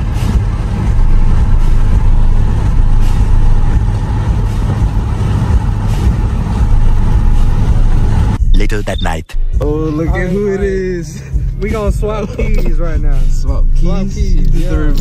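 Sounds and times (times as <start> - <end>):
car cabin engine and road rumble: 0.0 - 15.0.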